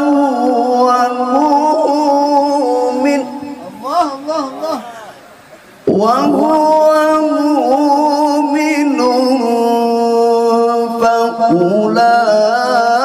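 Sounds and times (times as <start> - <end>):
man reciting melodically into microphone: 0.0 - 13.0.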